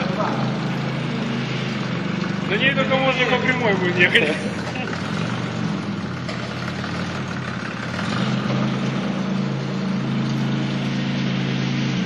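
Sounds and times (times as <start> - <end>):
suv engine running at low revs: 0.0 - 12.0.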